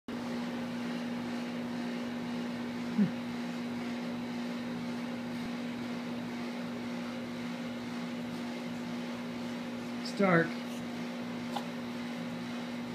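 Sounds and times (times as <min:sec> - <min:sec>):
steady machine hum: 0:00.1 - 0:12.9.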